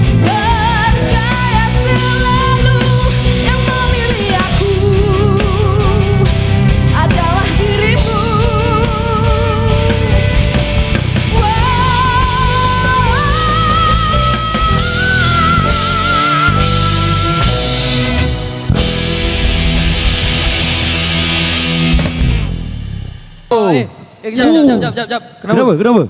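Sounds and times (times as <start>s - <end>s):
live rock band playing: 0.0s - 23.5s.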